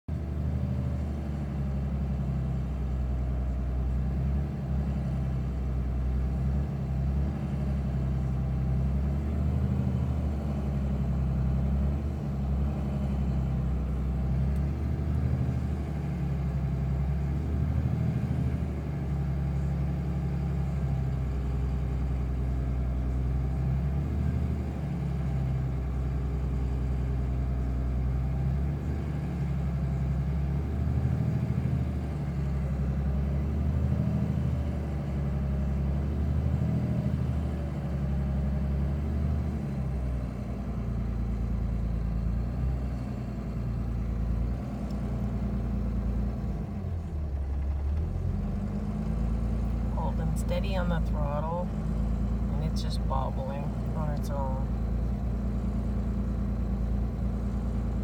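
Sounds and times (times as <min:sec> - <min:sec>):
diesel engine unstable idle: 0:00.1 - 0:58.0.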